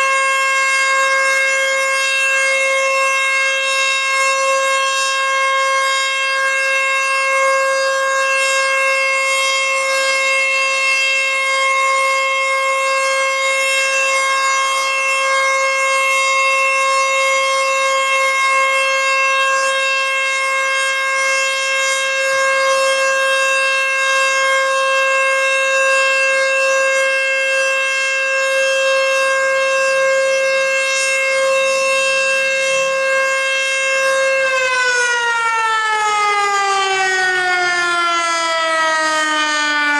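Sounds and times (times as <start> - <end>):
warning siren steady pitch: 0.0 - 39.9.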